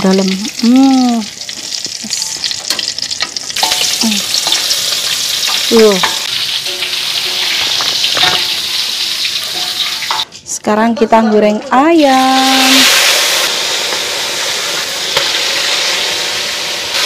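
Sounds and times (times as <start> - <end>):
oil sizzling in a frying pan: 0.0 - 10.3, 12.0 - 17.0.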